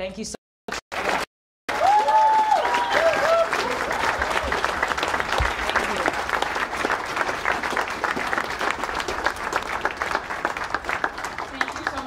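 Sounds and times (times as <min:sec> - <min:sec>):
audience applauding: 0:00.9 - 0:12.0.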